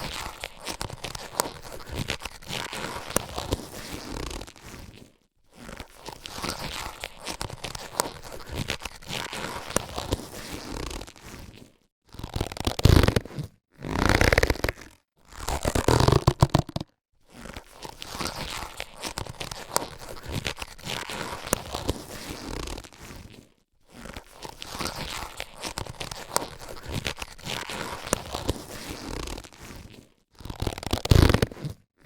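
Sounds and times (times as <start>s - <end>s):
latex gloves crinkling: 0.0s - 31.8s.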